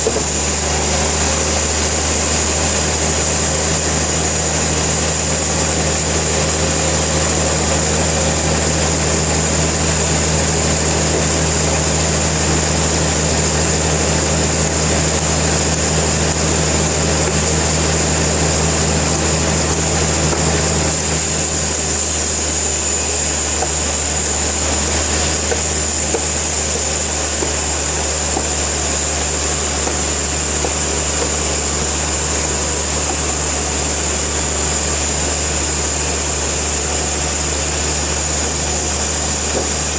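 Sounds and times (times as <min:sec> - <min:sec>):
high mechanical whine: 0:00.0 - 0:39.9
sawmill machinery drone: 0:00.0 - 0:39.9.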